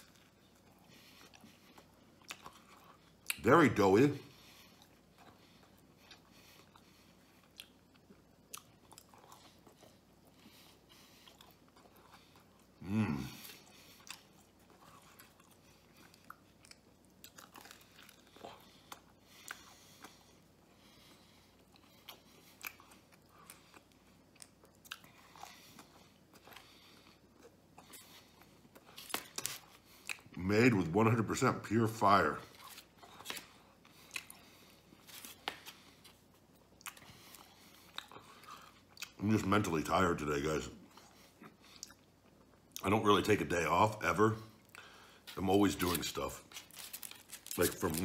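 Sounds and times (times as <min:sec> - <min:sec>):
chewing soft bread: 0:00.0 - 0:43.0, 0:44.4 - 0:48.0.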